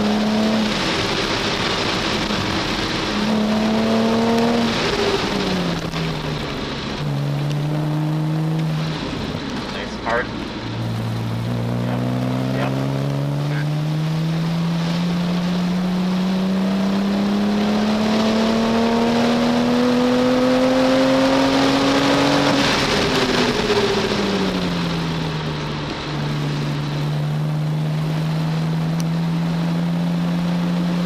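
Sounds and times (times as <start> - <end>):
car engine from inside cabin: 0.0 - 31.0
wind and tyre noise: 0.0 - 31.0.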